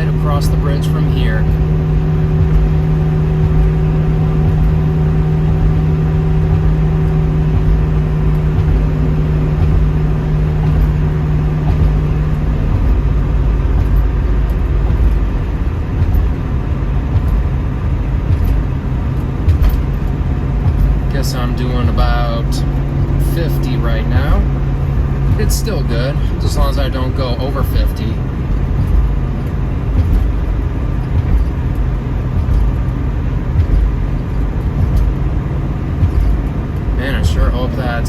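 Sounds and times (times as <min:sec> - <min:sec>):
car engine drone: 0:00.0 - 0:38.0
tyre and road rumble: 0:00.0 - 0:38.0.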